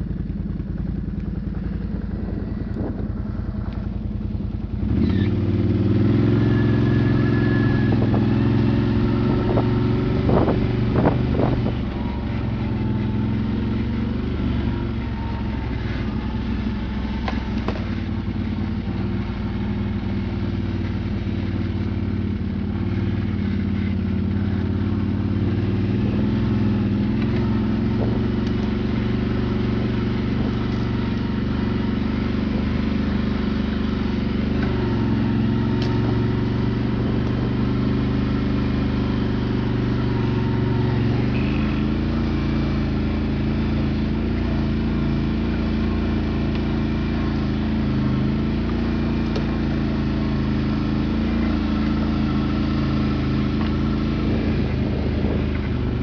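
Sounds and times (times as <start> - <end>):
quad engine running under load: 0.0 - 56.0.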